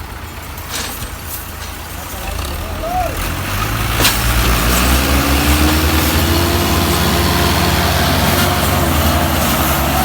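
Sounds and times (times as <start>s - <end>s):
tractor engine revving: 0.1s - 10.0s.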